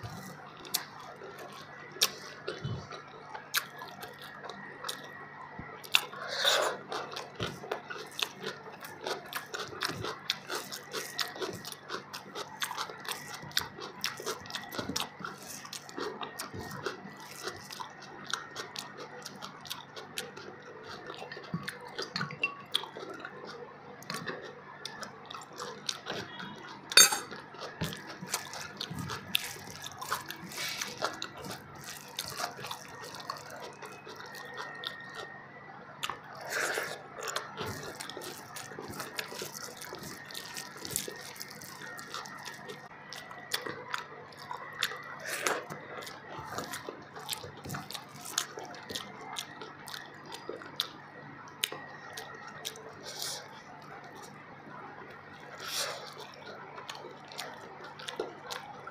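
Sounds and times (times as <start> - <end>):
chewing with lip smacks: 0.0 - 58.9.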